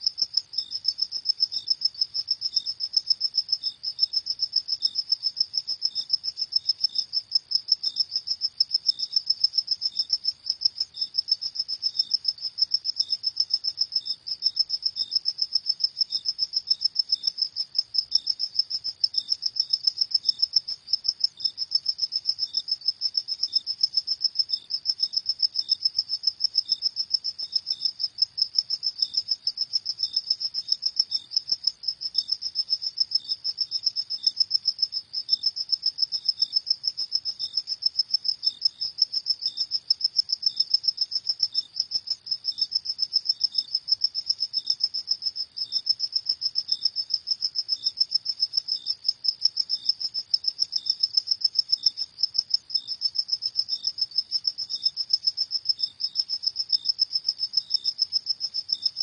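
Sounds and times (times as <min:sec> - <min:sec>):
cricket trilling: 0:00.0 - 0:59.0
faint lower cricket chirp: 0:00.0 - 0:59.0.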